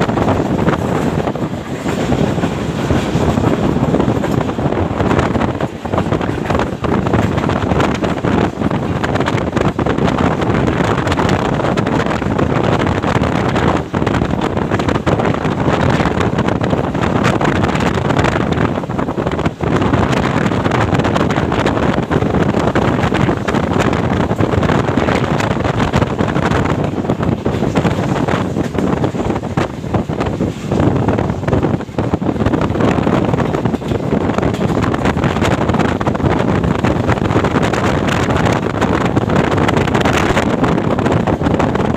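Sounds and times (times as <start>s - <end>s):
train coach rumbling: 0.0s - 41.9s
wind buffeting the microphone: 0.0s - 41.9s.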